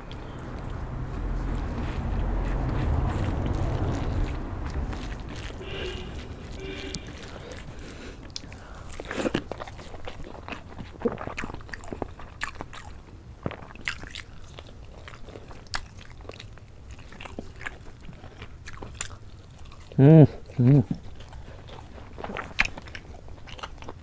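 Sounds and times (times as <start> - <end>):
person chewing with wet smacks: 0.0 - 24.0.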